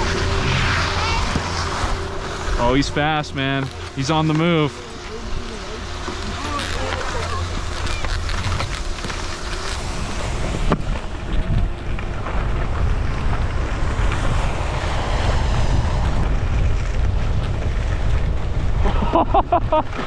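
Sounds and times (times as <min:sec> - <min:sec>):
skis running over snow: 0:00.0 - 0:20.0
wind buffeting microphone: 0:00.0 - 0:20.0.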